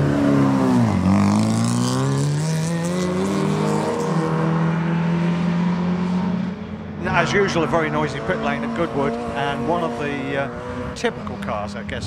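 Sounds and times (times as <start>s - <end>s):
racing car engine: 0.0s - 12.0s.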